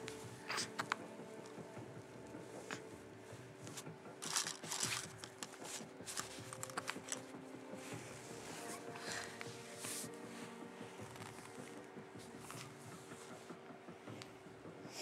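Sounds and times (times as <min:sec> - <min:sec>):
soft rustling and crinkling: 0:00.0 - 0:14.2
faint steady background tones: 0:00.0 - 0:15.0.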